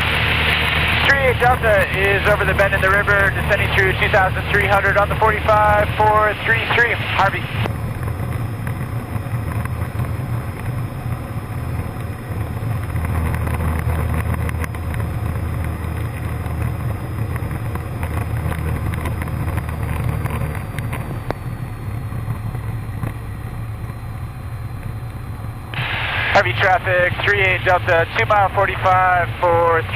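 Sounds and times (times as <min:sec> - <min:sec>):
small plane engine droning in cabin: 0:00.0 - 0:29.9.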